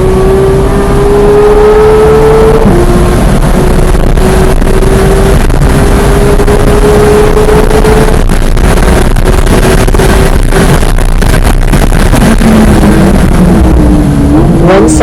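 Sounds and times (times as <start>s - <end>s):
car engine at high revs: 0.0s - 15.0s
wind and road noise: 0.0s - 15.0s.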